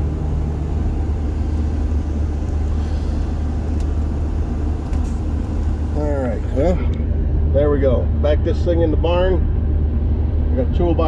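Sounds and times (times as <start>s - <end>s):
combine diesel engine humming: 0.0s - 11.0s.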